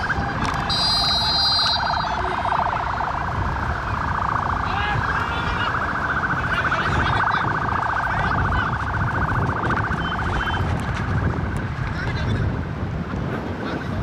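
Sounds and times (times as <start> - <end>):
warbling siren-like trilled tone: 0.0 - 11.6.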